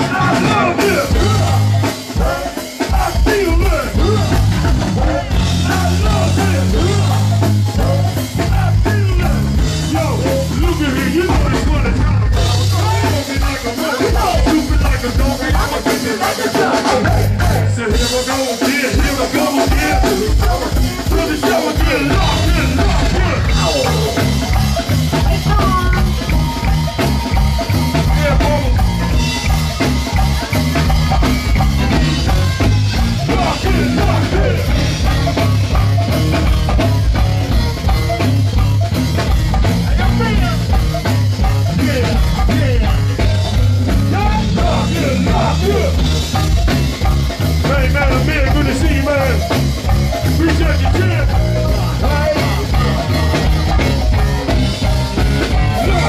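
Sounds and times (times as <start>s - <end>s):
congas and percussion: 0.0s - 56.0s
drum and bass beat: 0.0s - 56.0s
electric guitar: 0.0s - 56.0s
voices singing: 0.0s - 56.0s.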